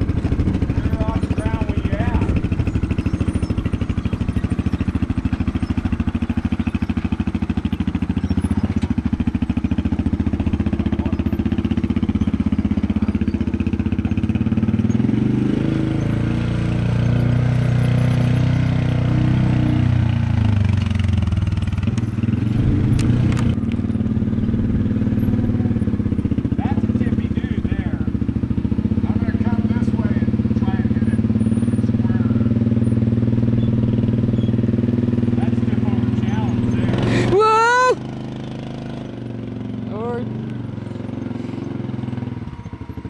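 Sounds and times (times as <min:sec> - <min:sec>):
engine revving under load: 0:00.0 - 0:43.0.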